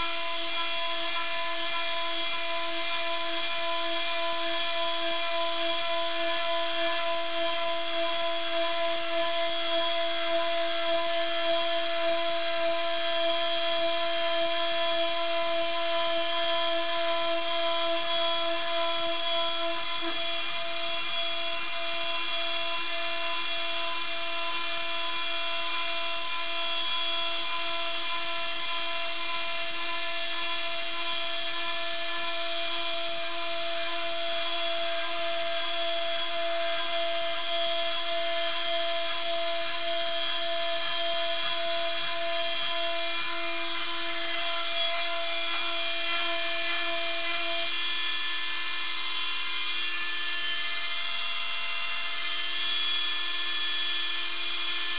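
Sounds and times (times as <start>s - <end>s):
cnc router whine: 0.0s - 54.9s.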